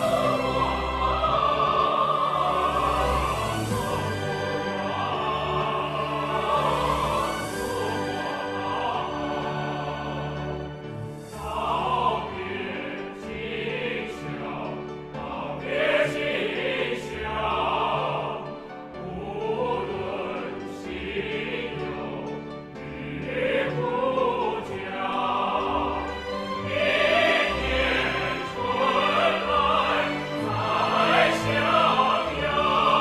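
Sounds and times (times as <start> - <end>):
choir singing with vibrato: 0.0 - 33.0
orchestra playing: 0.0 - 33.0.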